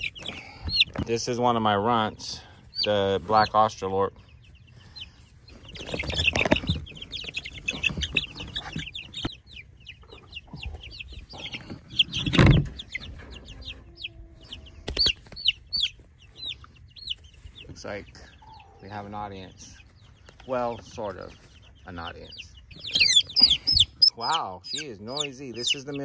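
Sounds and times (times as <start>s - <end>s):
chickens clucking: 0.0s - 26.0s
chicks peeping: 0.0s - 26.0s.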